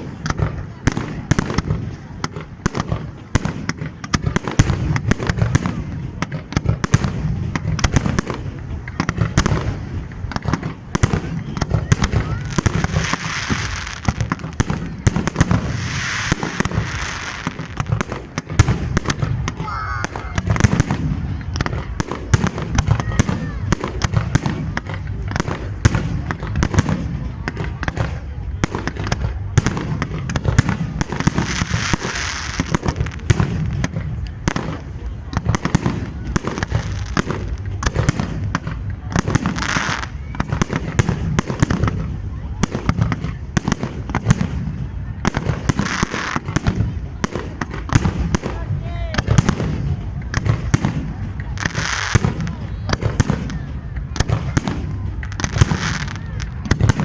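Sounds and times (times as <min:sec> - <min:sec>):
fireworks crackling: 0:00.0 - 0:27.0, 0:28.6 - 0:57.0
fireworks bangs and booms: 0:00.0 - 0:57.0.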